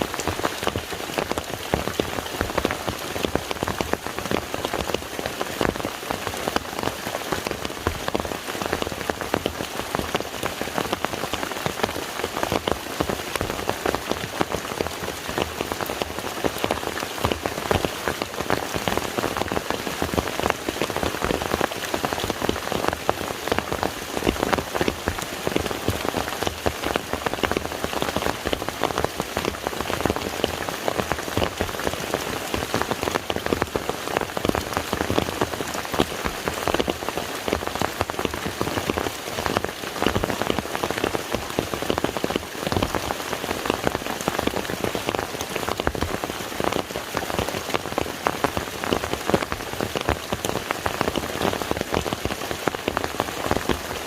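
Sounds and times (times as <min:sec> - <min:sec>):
rain falling on a lake: 0:00.0 - 0:54.0.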